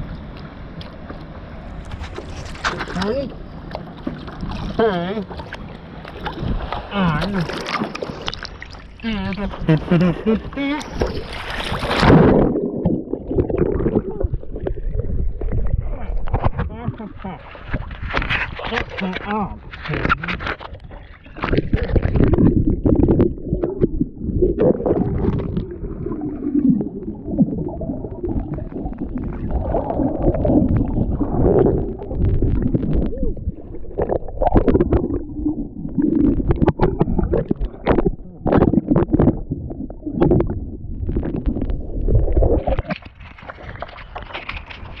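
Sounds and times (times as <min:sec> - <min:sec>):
knocks and bubbling underwater: 0:00.0 - 0:45.0
muffled water gurgling and sloshing: 0:00.0 - 0:45.0.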